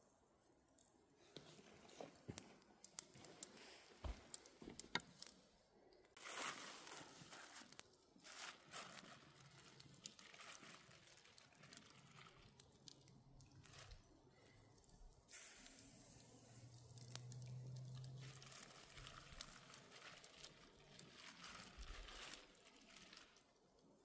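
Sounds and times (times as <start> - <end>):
rustling and crinkling: 0.7 - 5.4, 6.1 - 24.0.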